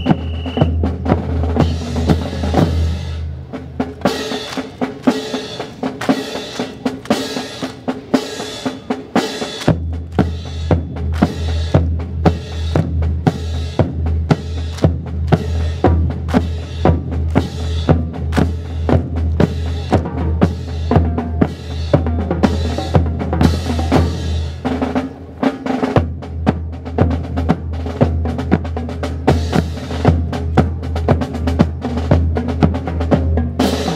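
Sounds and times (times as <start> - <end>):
drum-heavy music: 0.0 - 33.9.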